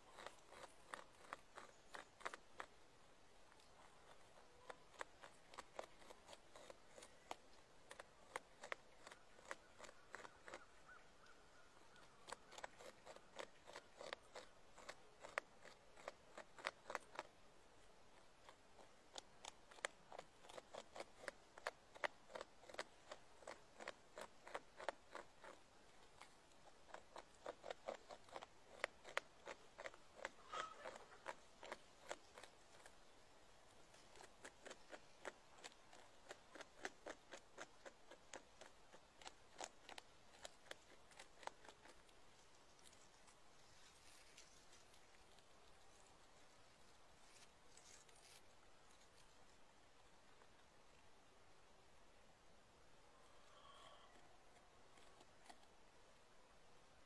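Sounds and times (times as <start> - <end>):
beaver gnawing wood: 0.0 - 57.0.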